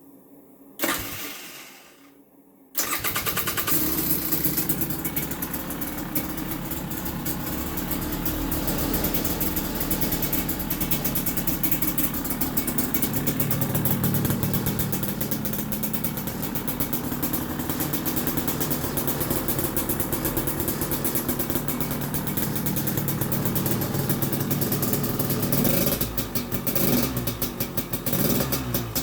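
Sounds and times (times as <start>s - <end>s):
two-stroke engine idling: 2.8s - 29.0s.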